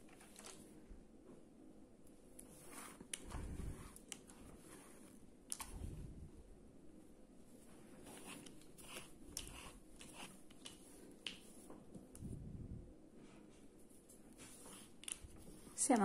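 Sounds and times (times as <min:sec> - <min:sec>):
soft rustling of cord: 0:00.0 - 0:01.5, 0:02.1 - 0:16.0.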